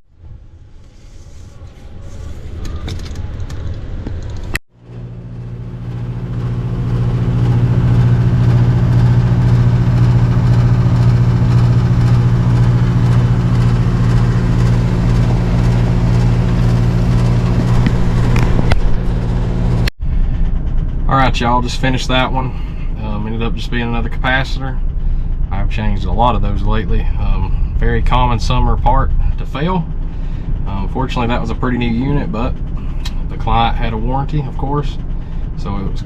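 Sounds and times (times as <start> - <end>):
heat pump unit humming: 0.5 - 36.0.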